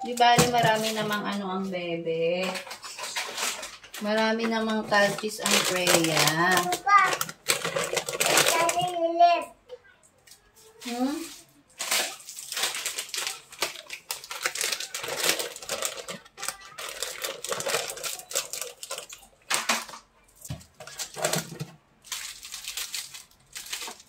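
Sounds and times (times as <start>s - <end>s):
plastic wrappers crinkling: 0.0s - 9.4s, 10.2s - 24.0s.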